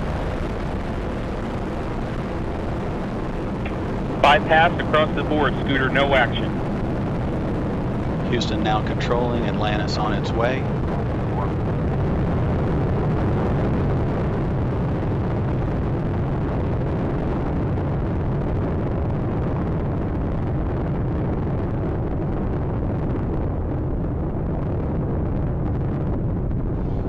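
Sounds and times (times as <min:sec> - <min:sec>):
rocket engines rumbling: 0:00.0 - 0:27.0.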